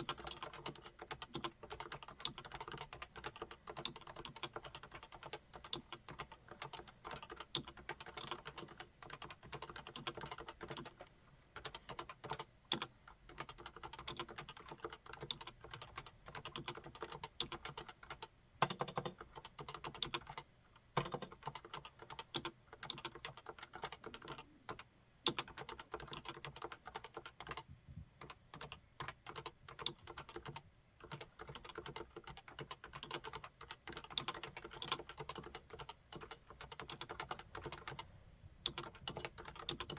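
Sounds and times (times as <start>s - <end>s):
keyboard typing: 0.0s - 11.0s, 11.6s - 27.6s, 28.2s - 39.9s.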